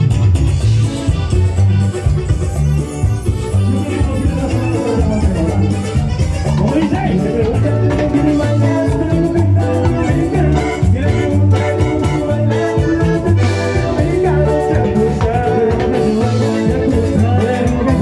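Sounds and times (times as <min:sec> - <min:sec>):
loud latin dance music: 0:00.0 - 0:18.0.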